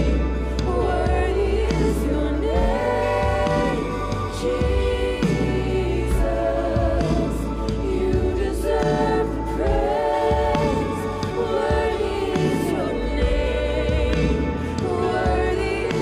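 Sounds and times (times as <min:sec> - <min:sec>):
band with bass line: 0:00.0 - 0:16.0
singers holding notes in harmony: 0:00.0 - 0:16.0.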